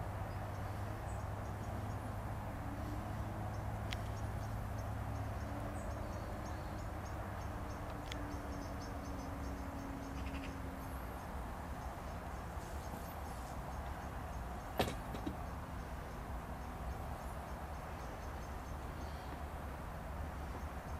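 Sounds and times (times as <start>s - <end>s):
crickets chirping: 0.1s - 20.9s.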